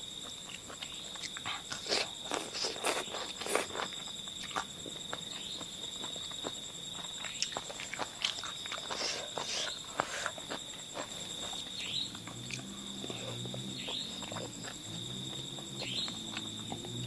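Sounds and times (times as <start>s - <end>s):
high-pitched insect tone: 0.0s - 17.0s
person chewing and lip smacking: 0.3s - 17.0s.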